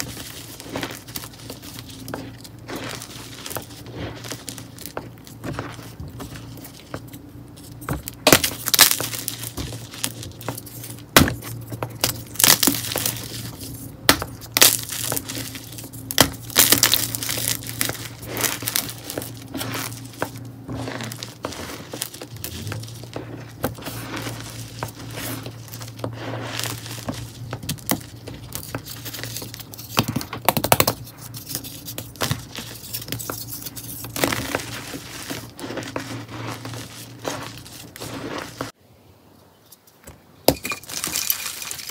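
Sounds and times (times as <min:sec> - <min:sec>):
dry clay crunching and crumbling: 0:00.0 - 0:38.8, 0:40.5 - 0:41.9
steady low hum: 0:00.0 - 0:38.8.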